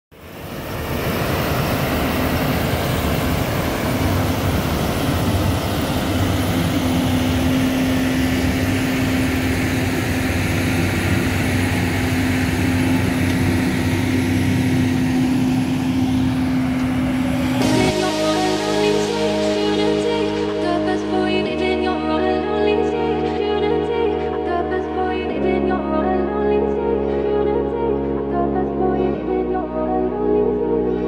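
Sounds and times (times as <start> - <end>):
farm machine engines droning: 0.2 - 25.4.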